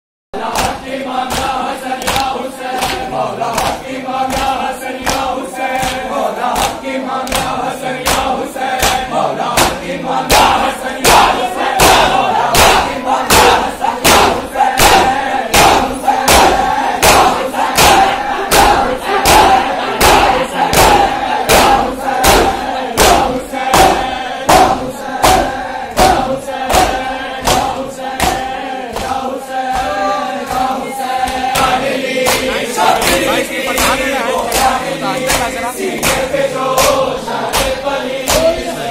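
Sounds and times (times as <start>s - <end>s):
crowd of men chanting: 0.4s - 38.9s
hands slapping bare chests: 0.5s - 38.6s.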